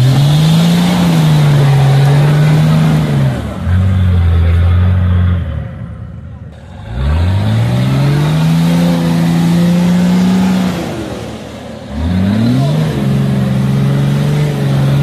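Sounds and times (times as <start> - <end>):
engine revving at high revs: 0.0 - 5.0, 6.7 - 15.0.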